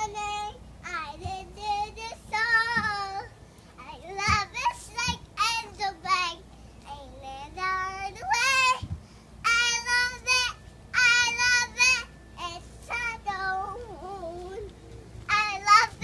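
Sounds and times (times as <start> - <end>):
toddler girl singing: 0.0 - 16.0.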